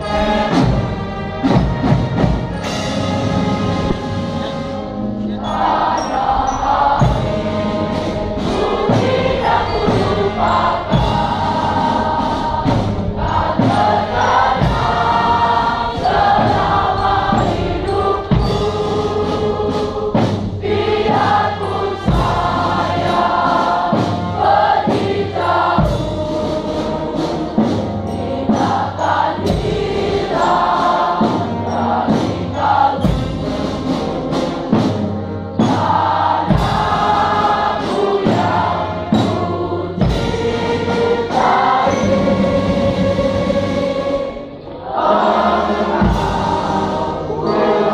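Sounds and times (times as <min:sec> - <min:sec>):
steady drum beat: 0:00.0 - 0:04.8, 0:05.4 - 0:44.3, 0:45.0 - 0:47.9
brass band playing: 0:00.0 - 0:47.9
children's choir singing: 0:00.0 - 0:47.9.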